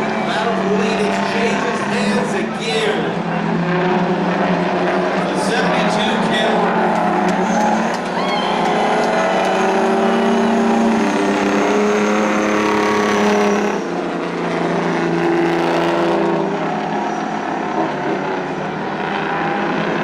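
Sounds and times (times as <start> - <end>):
truck diesel engines racing: 0.0 - 20.0.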